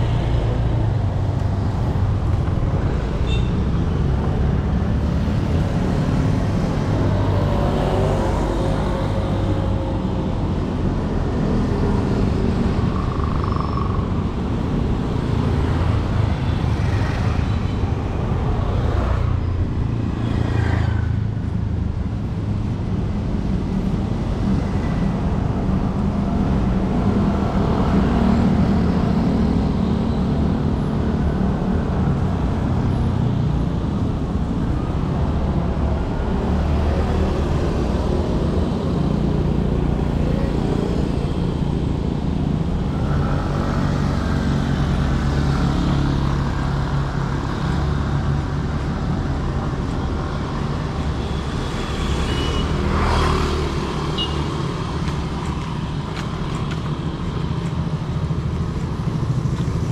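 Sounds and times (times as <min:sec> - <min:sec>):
passing vehicles humming: 0:00.0 - 0:59.9.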